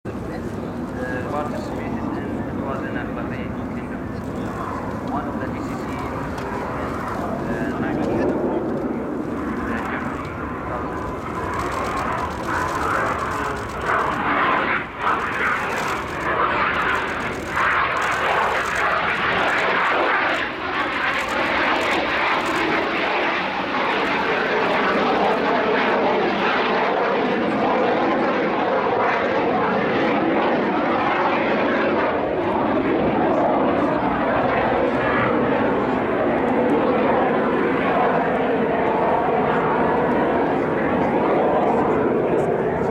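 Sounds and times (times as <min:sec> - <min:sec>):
jet aircraft flying past: 0:00.1 - 0:42.9.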